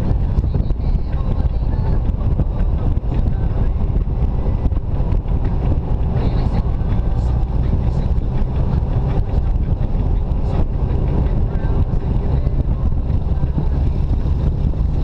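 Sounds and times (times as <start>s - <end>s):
car engine and tyre noise: 0.0s - 15.0s
wind buffeting microphone: 0.0s - 15.0s.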